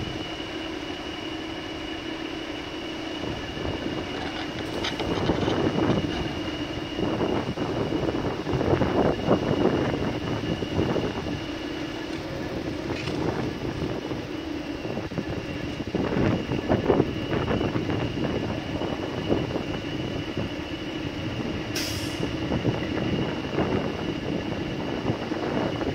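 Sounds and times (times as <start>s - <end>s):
crane engine running: 0.0s - 25.9s
high whine: 0.0s - 25.9s.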